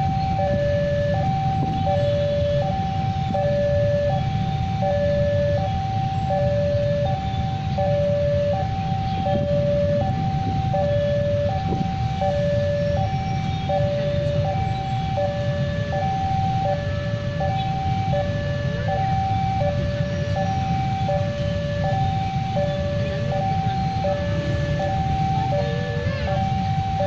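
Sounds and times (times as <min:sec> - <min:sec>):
level crossing two-tone alarm: 0:00.0 - 0:27.0.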